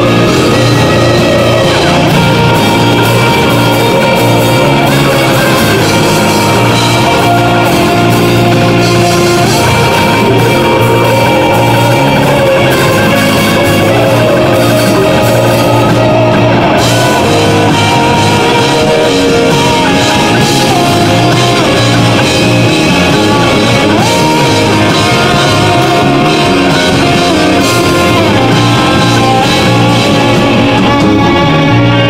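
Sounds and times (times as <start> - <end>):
distorted electric guitar lead: 0.0 - 32.0
metal band playing: 0.0 - 32.0.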